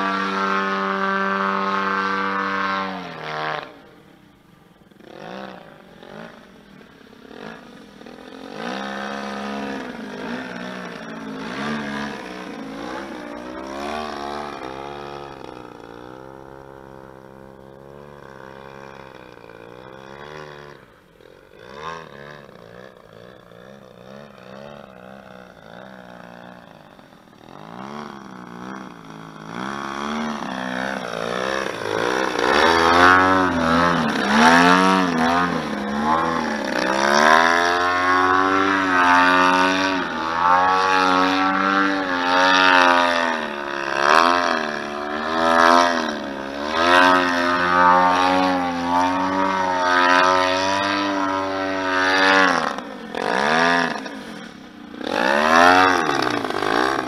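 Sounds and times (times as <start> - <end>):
model plane engine revving: 0.0 - 57.0.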